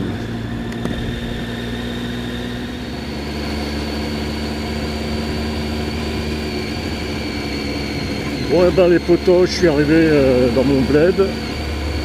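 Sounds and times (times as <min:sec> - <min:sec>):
motorcycle engine pulling at low revs: 0:00.0 - 0:12.0.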